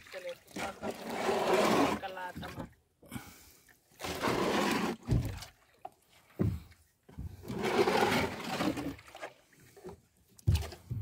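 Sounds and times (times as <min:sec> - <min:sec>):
rustling and water sloshing: 0:00.0 - 0:11.0.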